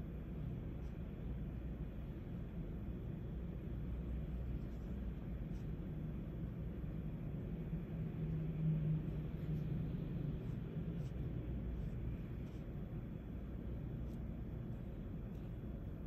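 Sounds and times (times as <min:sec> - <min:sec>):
low background hum and rumble: 0:00.0 - 0:16.0.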